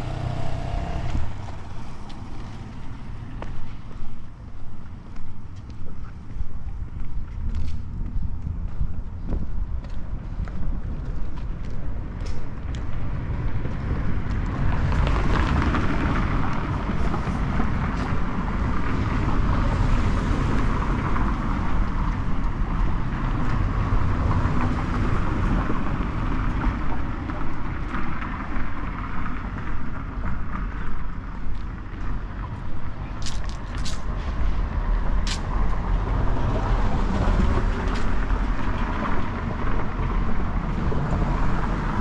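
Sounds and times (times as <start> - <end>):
vehicle passing: 0.0 - 5.5, 12.2 - 42.0
low rumble of traffic: 0.0 - 42.0.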